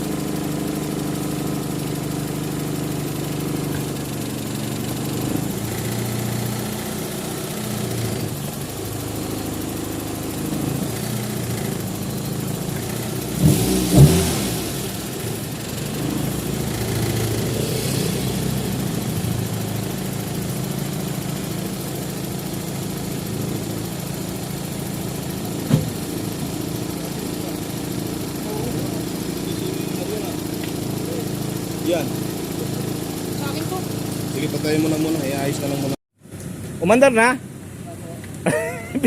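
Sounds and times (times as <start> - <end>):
engine revving: 0.0 - 36.0
car engine idling: 0.0 - 39.0.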